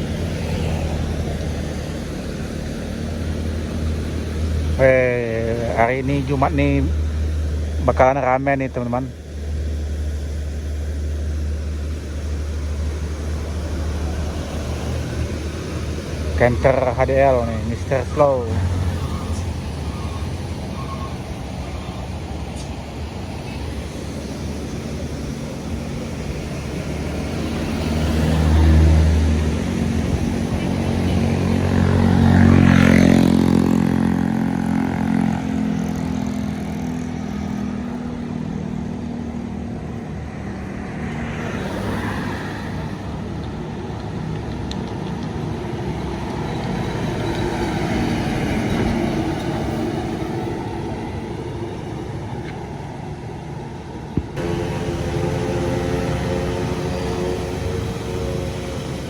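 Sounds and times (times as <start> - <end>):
trucks and buses driving past: 0.0 - 59.0.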